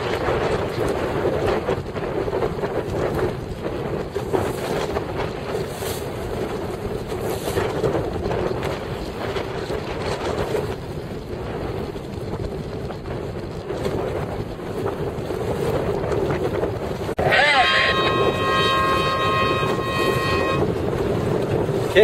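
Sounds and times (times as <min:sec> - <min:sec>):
waves washing around boat: 0:00.0 - 0:22.0
wind buffeting microphone: 0:00.0 - 0:22.0.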